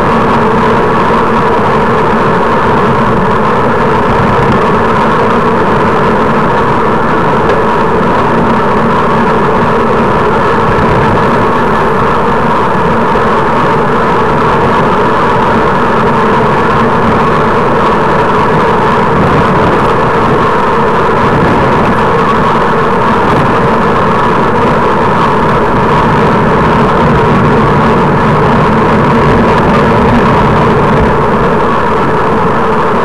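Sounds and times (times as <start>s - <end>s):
bicycle road noise: 0.0s - 33.0s
rushing wind: 0.0s - 33.0s.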